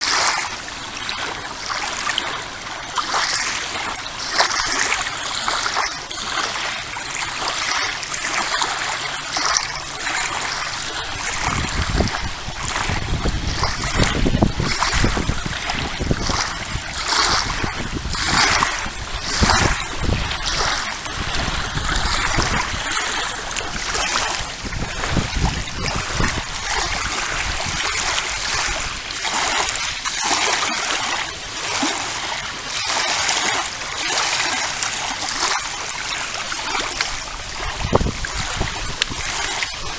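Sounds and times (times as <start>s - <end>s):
waves lapping against shore: 0.0s - 39.9s.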